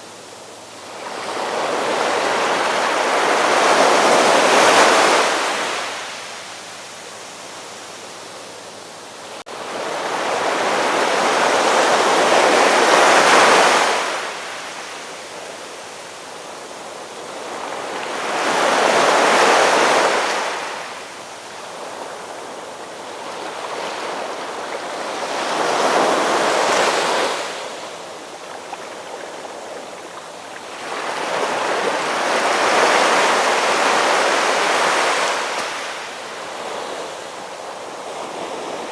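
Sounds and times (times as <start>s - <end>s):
ocean waves breaking: 0.7s - 6.3s, 9.5s - 38.9s.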